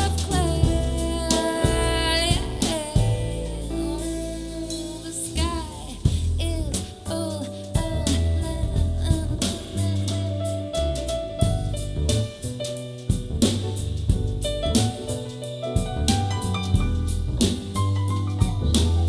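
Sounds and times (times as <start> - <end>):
instrumental music with drums and bass: 0.0 - 19.0.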